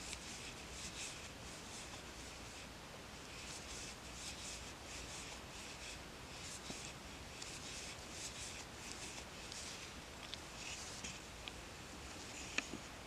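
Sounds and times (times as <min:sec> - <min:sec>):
yarn rustling through crochet hook: 0:00.0 - 0:02.7, 0:03.3 - 0:11.4.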